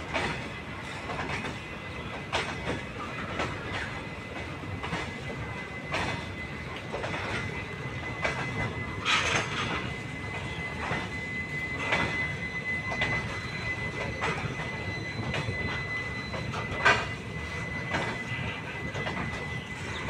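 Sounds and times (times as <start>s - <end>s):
train wheels clacking over rail joints: 0.0s - 20.0s.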